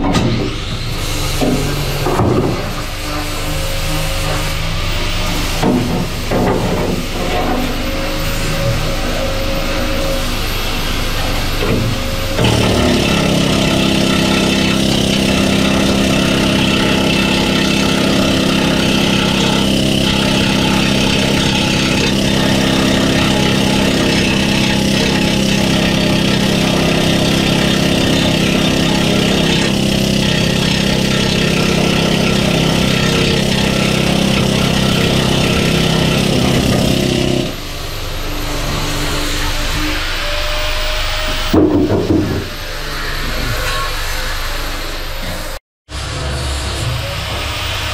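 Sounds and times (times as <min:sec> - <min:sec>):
angle grinder on steel: 0:00.6 - 0:47.9.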